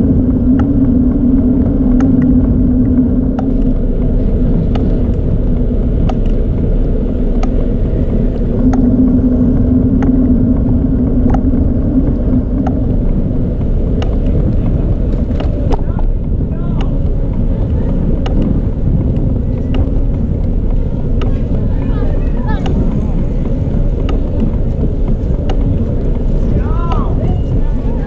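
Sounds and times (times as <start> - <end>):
bicycle tyres rumbling: 0.0 - 28.0
sharp ticking: 0.0 - 28.0
wind noise: 0.0 - 28.0.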